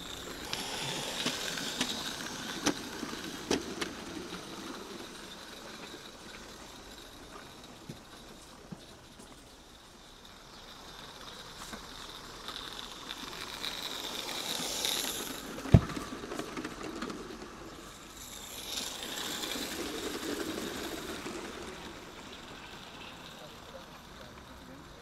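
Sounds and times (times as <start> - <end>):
small steam train running: 0.0 - 25.0.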